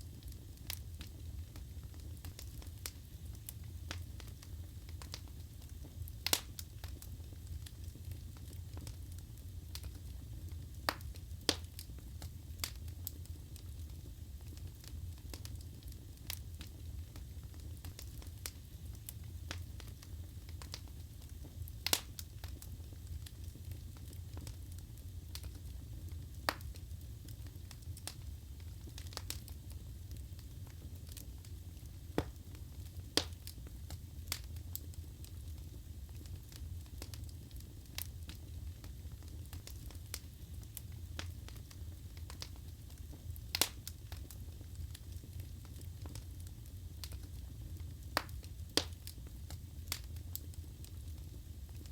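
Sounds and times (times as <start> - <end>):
burning logs crackling and popping: 0.0 - 51.9.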